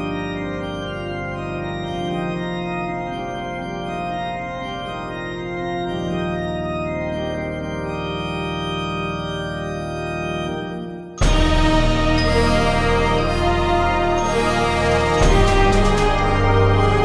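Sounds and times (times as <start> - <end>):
organ-like keyboard chords: 0.0 - 17.0.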